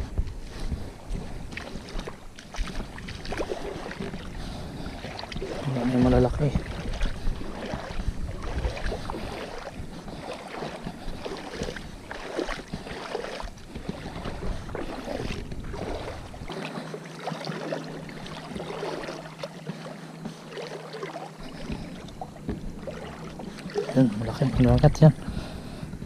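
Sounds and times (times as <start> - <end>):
water sloshing and splashing: 0.0 - 26.0.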